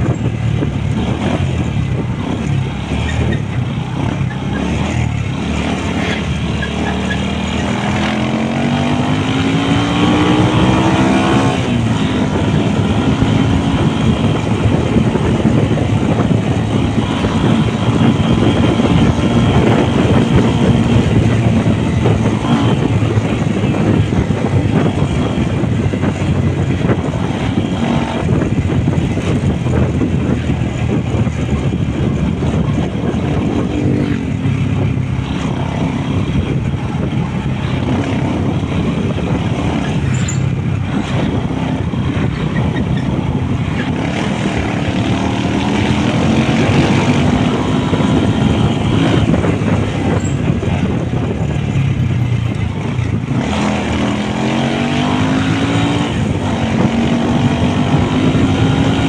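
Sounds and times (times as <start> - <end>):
motorcycle engine running: 0.0 - 59.0
road noise: 0.0 - 59.0
wind rush: 0.0 - 59.0.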